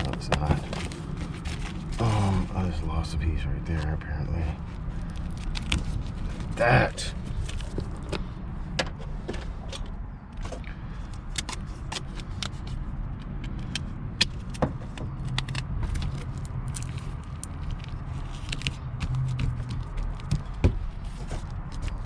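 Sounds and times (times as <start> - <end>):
hands crackling and scraping padding: 0.0 - 22.0.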